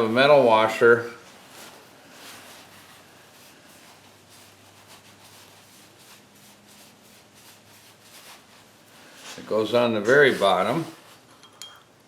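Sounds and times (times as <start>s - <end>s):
soft handling sounds: 0.0s - 12.0s.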